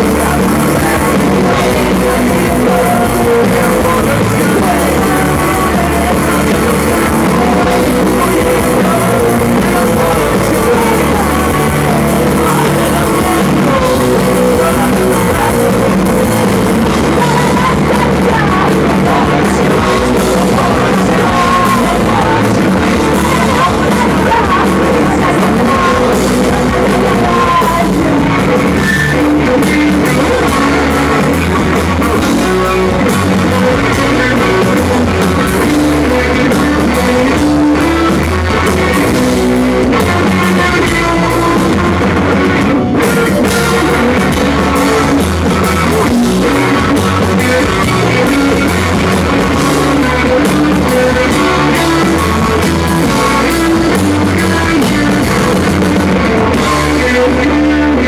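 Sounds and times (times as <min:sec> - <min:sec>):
drum kit beat: 0:00.0 - 0:58.0
electric guitars: 0:00.0 - 0:58.0.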